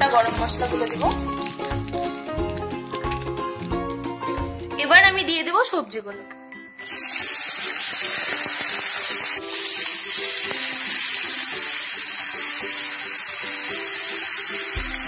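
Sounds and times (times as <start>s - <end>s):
vegetables sizzling in hot oil: 0.0s - 4.8s, 6.8s - 15.0s
soft background music: 0.0s - 15.0s.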